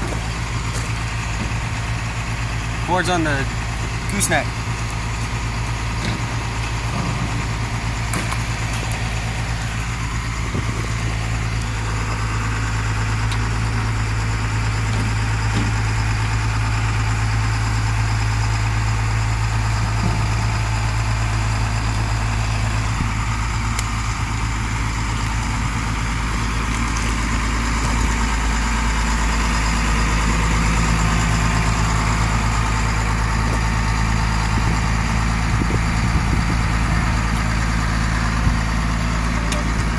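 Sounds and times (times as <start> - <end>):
large engine idling: 0.0 - 39.9.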